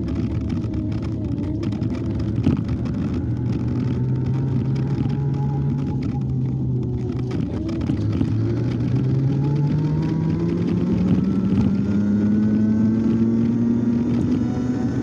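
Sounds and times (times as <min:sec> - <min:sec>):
electric motorcycle motor whine: 0:00.0 - 0:15.0.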